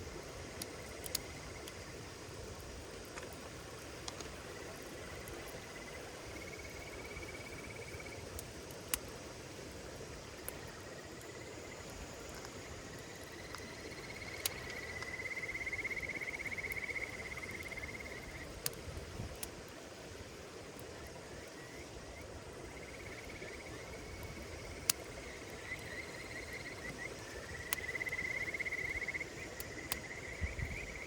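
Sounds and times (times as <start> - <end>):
campfire crackling: 0.0 - 31.0
insects trilling: 0.0 - 31.0.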